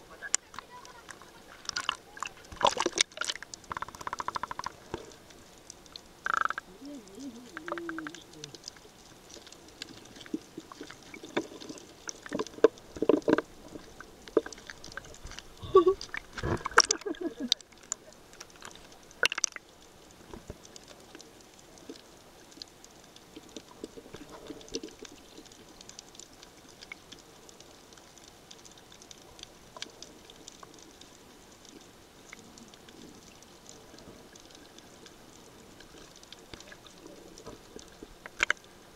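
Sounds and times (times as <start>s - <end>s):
faint steady crackle: 0.0s - 38.9s
underwater knocks and sloshing: 0.3s - 6.7s, 7.5s - 38.8s.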